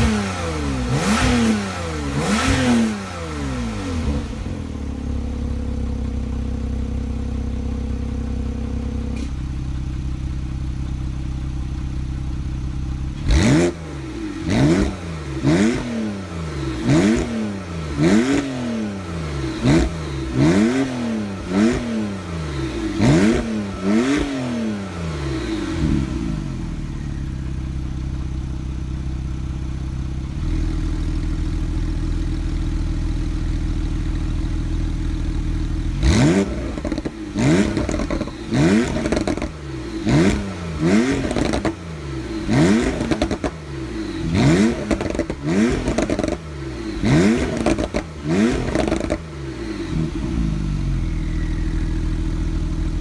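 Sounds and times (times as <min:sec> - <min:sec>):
car engine revving: 0:00.0 - 0:06.2, 0:11.3 - 0:53.0.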